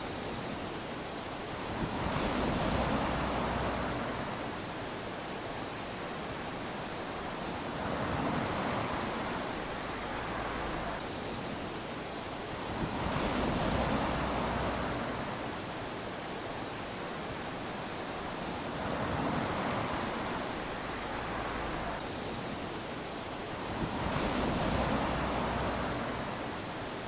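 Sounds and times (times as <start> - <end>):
waves washing onto beach: 0.0 - 27.0.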